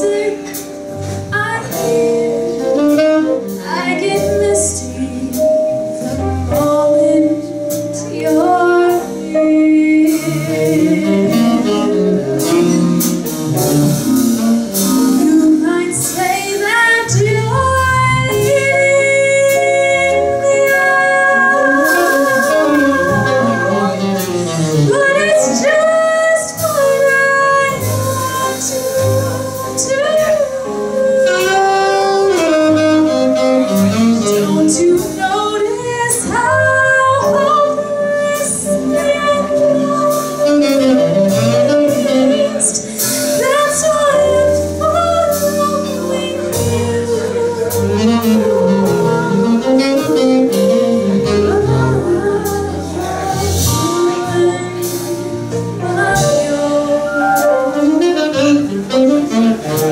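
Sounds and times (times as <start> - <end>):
jazz instrumental accompaniment: 0.0 - 59.9
woman singing with vibrato: 1.3 - 5.8, 6.6 - 12.0, 15.2 - 59.2.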